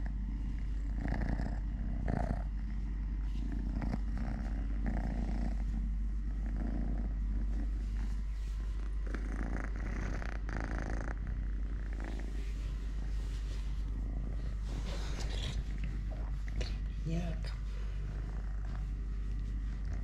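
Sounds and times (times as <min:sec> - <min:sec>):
kitten purring: 0:00.0 - 0:20.0.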